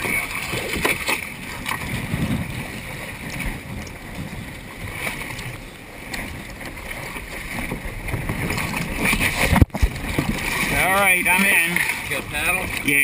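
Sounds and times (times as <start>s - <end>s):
water sloshing against hulls: 0.0s - 13.0s
wind rumble on microphone: 0.0s - 13.0s.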